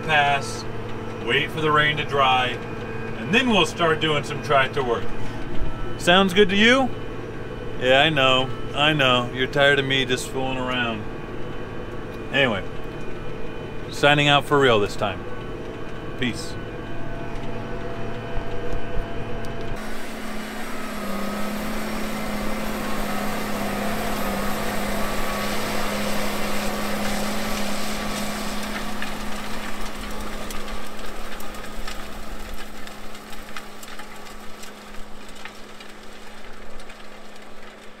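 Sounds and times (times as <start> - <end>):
tractor engine rumbling: 0.0 - 38.0.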